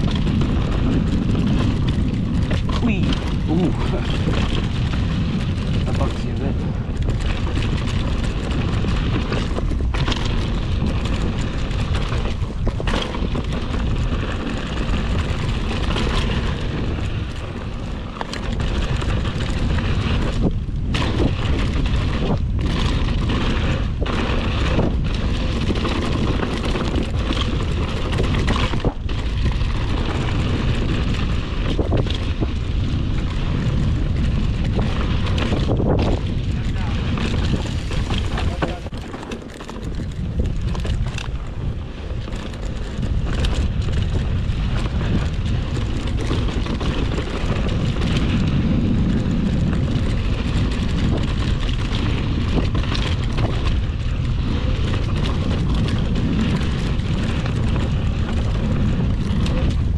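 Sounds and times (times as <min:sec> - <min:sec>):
bike knocking and rattling: 0:00.0 - 0:59.9
bike tyres rumbling on dirt: 0:00.0 - 0:59.9
wind on camera microphone: 0:00.0 - 0:59.9.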